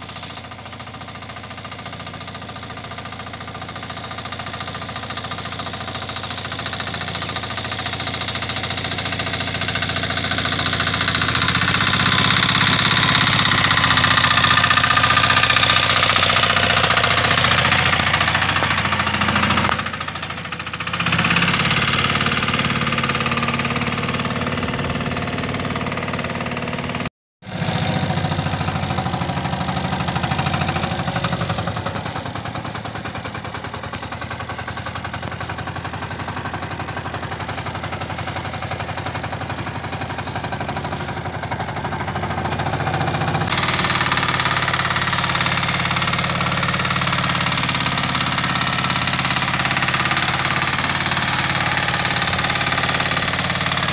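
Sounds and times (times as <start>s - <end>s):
power tiller engine running: 0.0s - 53.9s.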